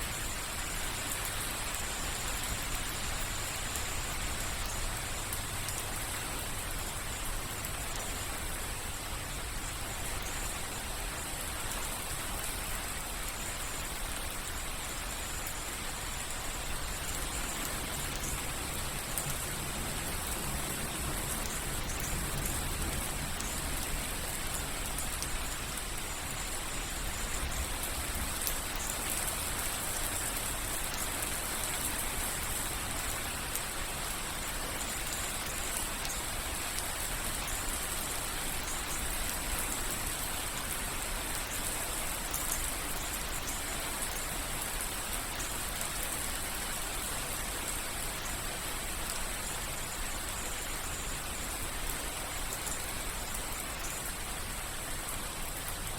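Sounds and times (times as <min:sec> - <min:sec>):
rain patter: 0:00.0 - 0:55.9.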